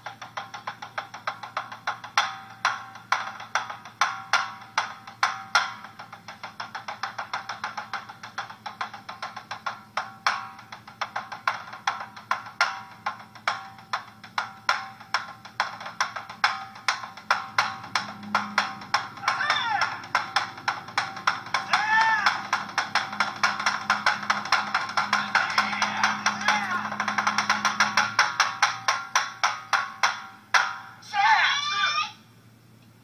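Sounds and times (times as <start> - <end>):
drums struck rapidly: 0.0 - 31.4.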